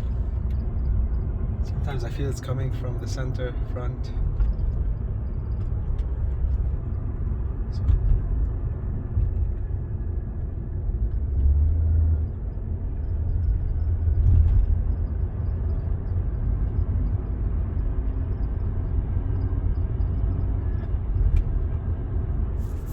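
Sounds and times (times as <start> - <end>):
car engine and road rumble: 0.0 - 22.9.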